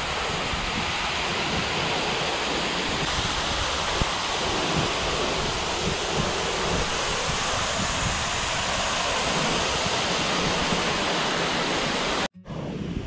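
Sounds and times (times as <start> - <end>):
waterfall rushing: 0.0 - 12.3
wind buffeting microphone: 0.0 - 13.0.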